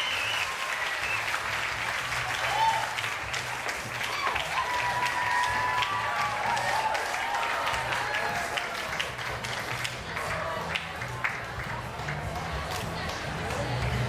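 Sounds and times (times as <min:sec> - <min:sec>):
audience clapping: 0:00.0 - 0:14.0.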